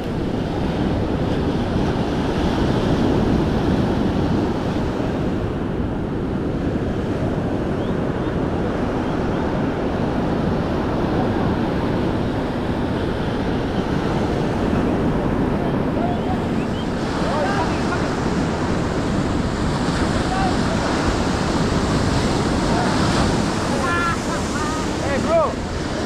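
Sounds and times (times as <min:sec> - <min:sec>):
surf breaking on shore: 0:00.0 - 0:26.0
wind buffeting microphone: 0:00.0 - 0:26.0.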